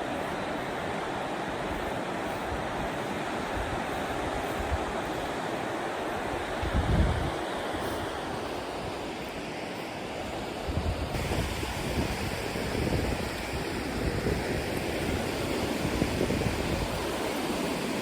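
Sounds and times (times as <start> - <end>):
steady rushing noise: 0.0 - 18.0
wind buffeting microphone: 1.2 - 9.4, 10.3 - 18.0.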